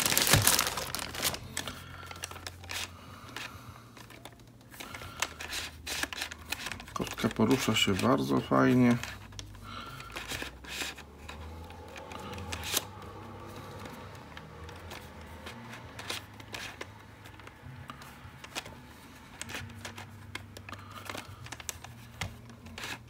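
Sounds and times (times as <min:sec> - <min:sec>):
plastic puzzle clicking: 0:02.1 - 0:08.3, 0:08.9 - 0:23.0.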